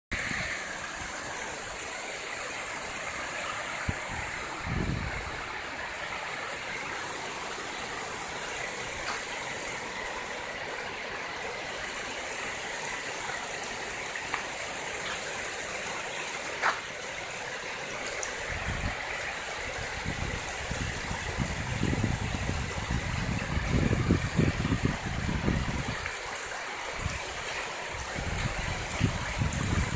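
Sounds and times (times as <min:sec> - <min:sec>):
river water rushing over rocks: 0:00.1 - 0:29.9.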